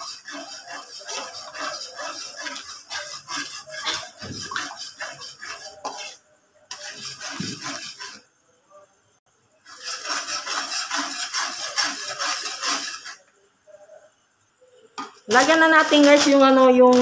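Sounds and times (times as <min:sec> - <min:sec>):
metal spatula scraping wok: 0:00.0 - 0:08.3, 0:09.6 - 0:13.3, 0:15.0 - 0:17.0.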